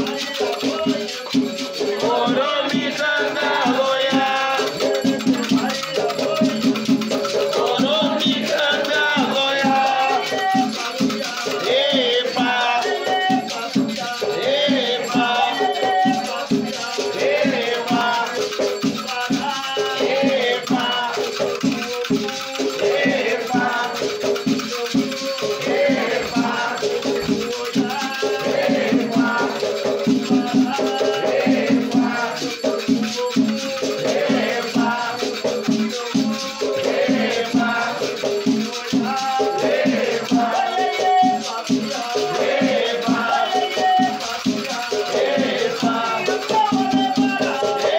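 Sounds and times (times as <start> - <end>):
chanting: 0.0 - 47.9
rattles shaken: 0.0 - 47.9.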